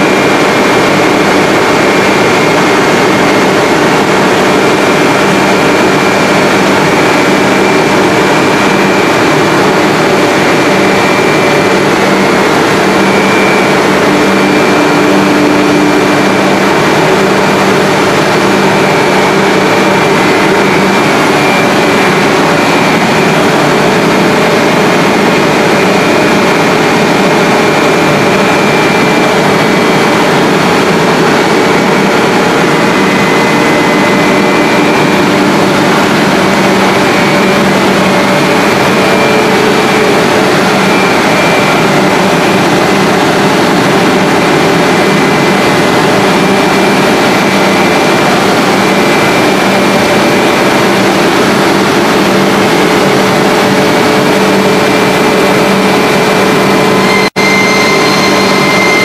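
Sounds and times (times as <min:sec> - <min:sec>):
steady machine hum with tones: 0:00.0 - 0:59.0.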